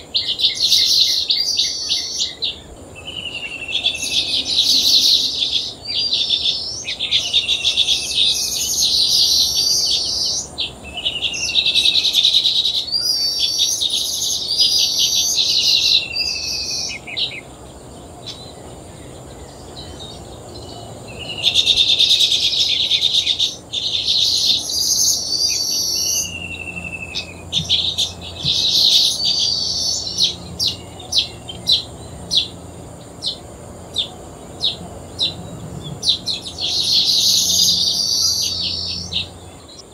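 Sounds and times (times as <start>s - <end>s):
birds chattering and singing: 0.0s - 39.9s.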